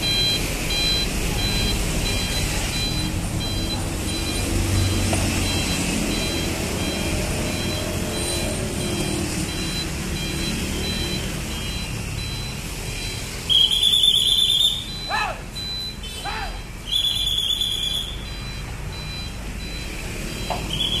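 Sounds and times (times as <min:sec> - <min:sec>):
diesel engine running low: 0:00.0 - 0:21.0
truck reversing alarm beeping: 0:00.0 - 0:21.0.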